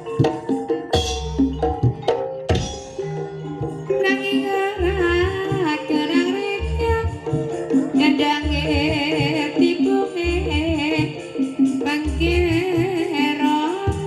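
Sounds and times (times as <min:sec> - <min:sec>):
tuned percussion: 0:00.0 - 0:14.0
person singing ornamented line: 0:02.7 - 0:14.0.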